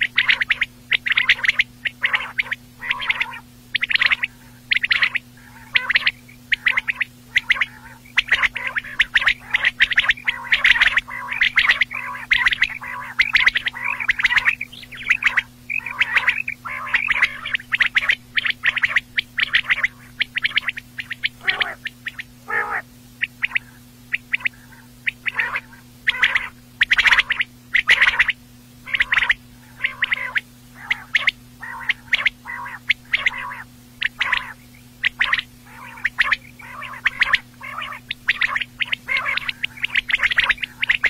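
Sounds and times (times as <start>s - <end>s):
quail calling: 0.0s - 41.0s
steady low hum: 0.0s - 41.0s.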